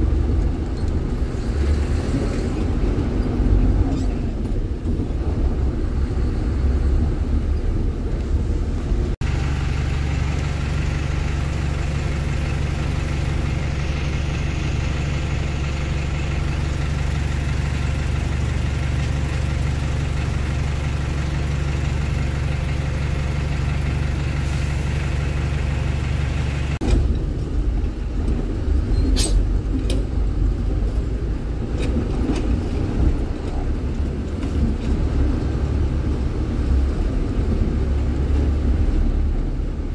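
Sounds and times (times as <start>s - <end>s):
dump truck engine running: 0.0s - 39.9s.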